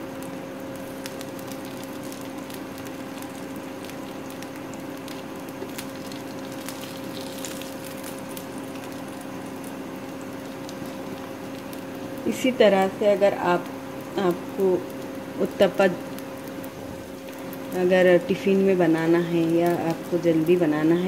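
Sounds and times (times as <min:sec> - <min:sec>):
batter sizzling in a frying pan: 0:00.0 - 0:21.0.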